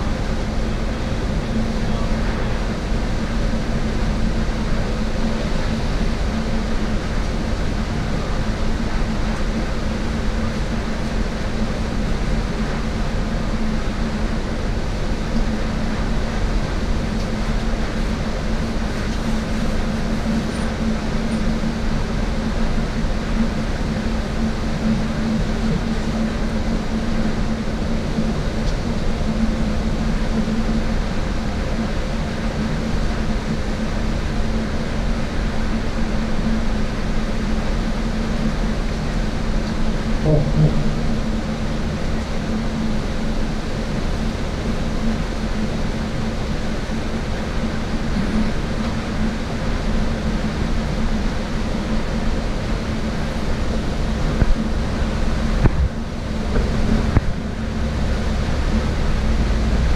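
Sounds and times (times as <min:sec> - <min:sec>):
bus engine and road drone: 0:00.0 - 0:59.9
constant low hum: 0:00.0 - 0:59.9.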